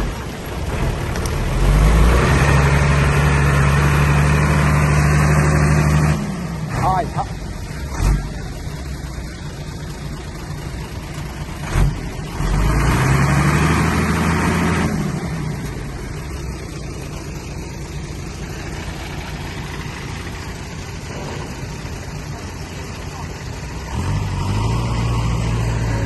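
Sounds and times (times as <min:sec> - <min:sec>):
diesel engine running and revving: 0:00.0 - 0:26.0.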